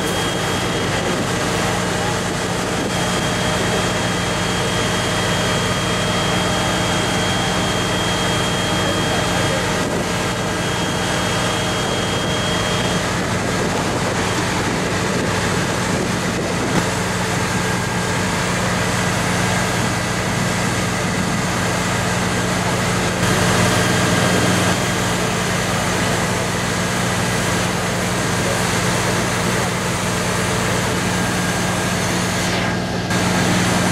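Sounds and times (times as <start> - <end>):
diesel machinery engine drone: 0.0 - 33.9.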